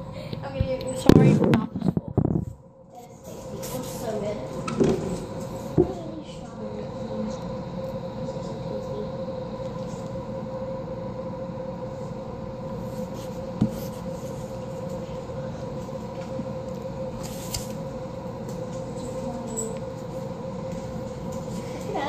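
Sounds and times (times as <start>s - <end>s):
background hum with drone: 0.0s - 22.0s.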